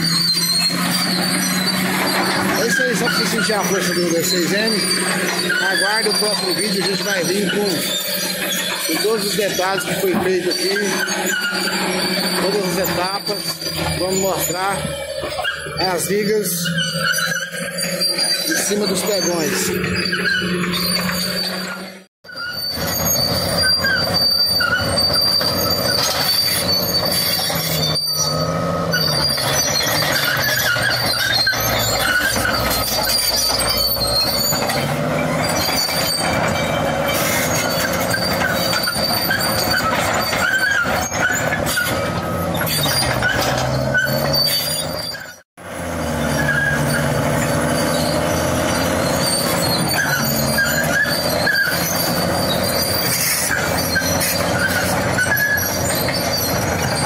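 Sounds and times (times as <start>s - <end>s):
diesel engine under heavy load: 0.0s - 57.0s
steel tracks squealing and clanking: 0.0s - 57.0s.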